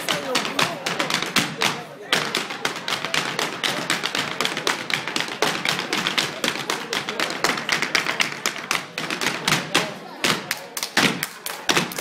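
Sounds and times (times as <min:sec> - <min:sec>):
hard shoes tapping wooden floor: 0:00.0 - 0:12.0.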